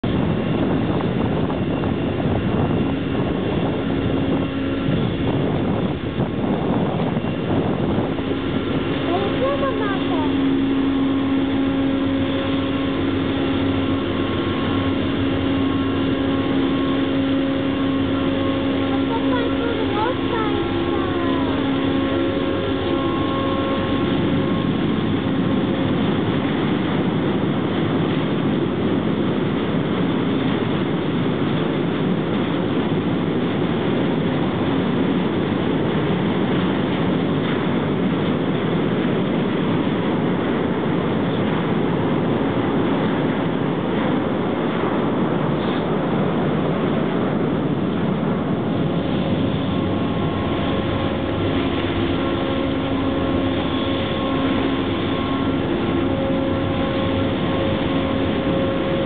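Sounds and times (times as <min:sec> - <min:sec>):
low hum: 0:00.0 - 0:59.0
ship engine rumble: 0:00.0 - 0:59.0
water along a hull: 0:00.0 - 0:59.0.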